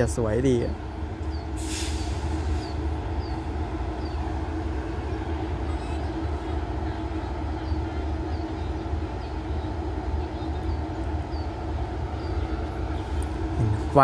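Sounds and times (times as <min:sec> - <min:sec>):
diesel train engine idling: 0:00.0 - 0:14.0.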